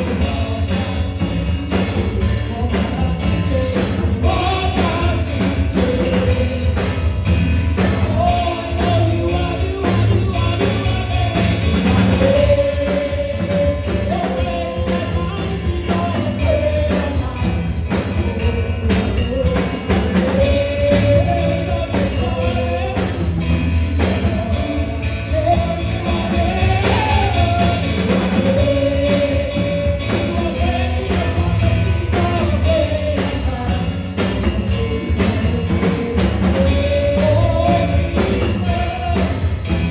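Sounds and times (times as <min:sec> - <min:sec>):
band with drums and bass: 0:00.0 - 0:39.9
lead vocal singing: 0:00.0 - 0:39.9.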